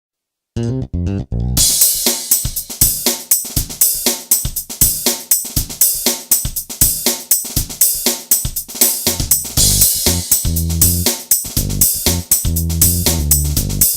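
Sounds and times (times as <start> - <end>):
drum kit playing a beat: 0.6 - 13.9.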